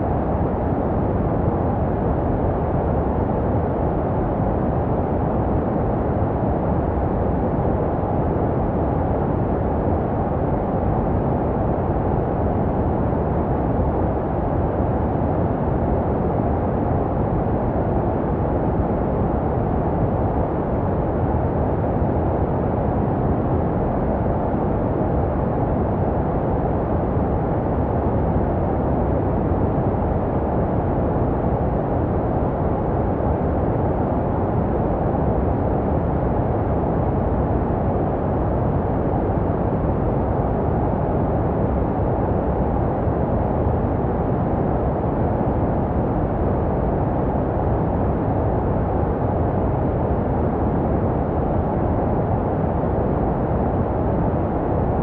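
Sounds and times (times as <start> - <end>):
deep muffled white noise: 0.0 - 55.0.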